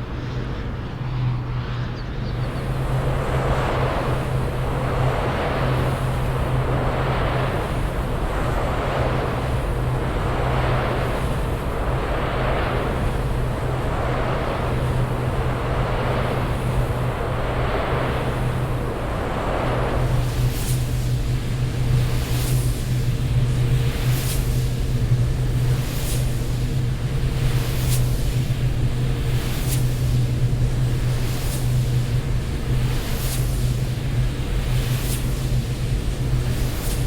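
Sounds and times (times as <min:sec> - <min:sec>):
turbine blades whooshing: 0:00.0 - 0:37.0
wind turbine hum: 0:00.0 - 0:37.0.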